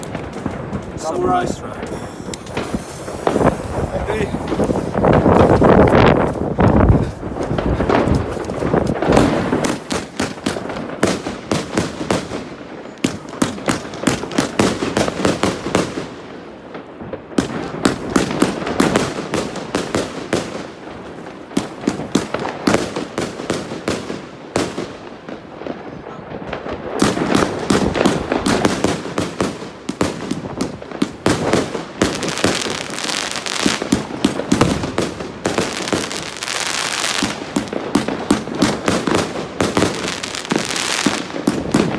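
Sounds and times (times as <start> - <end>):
firework cake firing volleys: 0.0 - 41.9.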